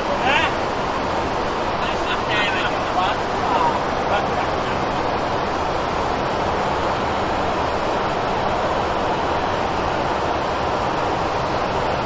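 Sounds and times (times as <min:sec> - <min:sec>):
airliner engines and airflow rushing: 0:00.0 - 0:12.0.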